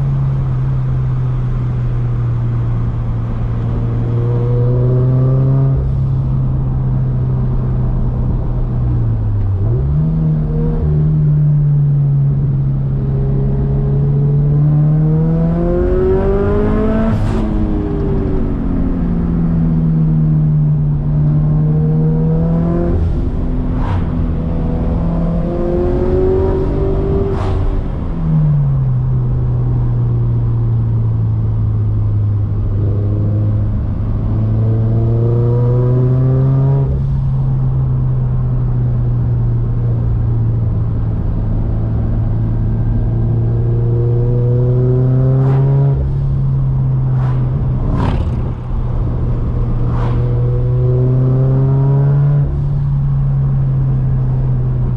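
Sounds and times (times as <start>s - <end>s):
car engine accelerating hard: 0.6s - 30.3s, 31.5s - 54.9s.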